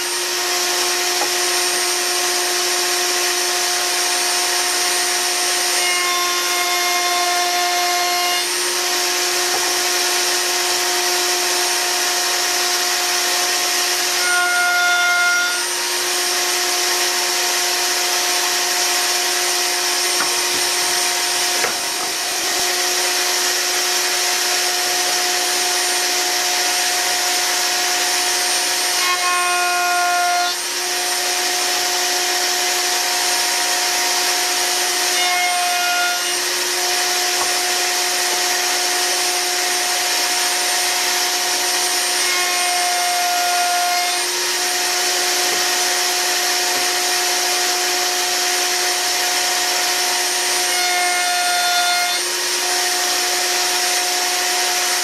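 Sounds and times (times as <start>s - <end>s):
wood router running: 0.0s - 55.0s.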